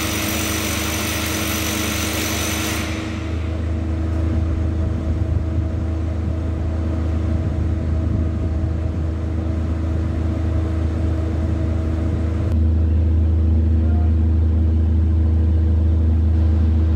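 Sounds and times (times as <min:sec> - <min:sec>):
low mechanical drone: 0:00.0 - 0:16.9.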